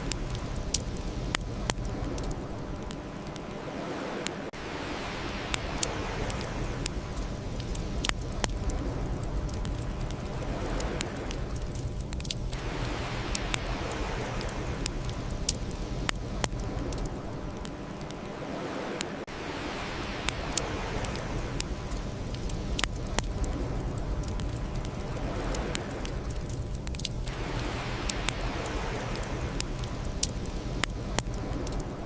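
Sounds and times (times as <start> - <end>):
fire pops and snaps: 0.0 - 3.5, 5.2 - 18.3, 19.9 - 32.0
low rumble of burning: 0.0 - 32.0.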